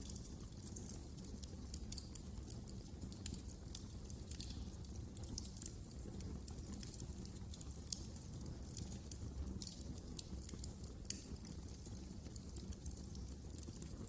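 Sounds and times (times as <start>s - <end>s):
low rumble of flames: 0.0s - 14.0s
sharp pops of fire: 0.0s - 14.0s
wood fire crackling: 0.0s - 14.0s.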